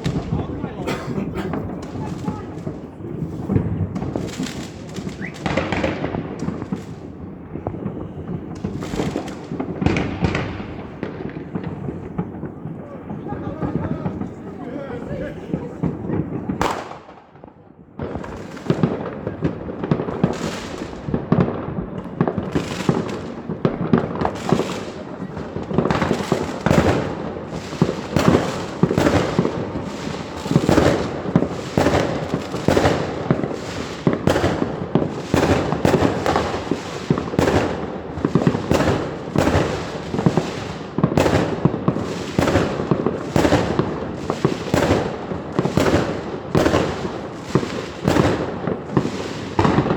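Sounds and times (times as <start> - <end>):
fireworks bursting: 0.0 - 49.9.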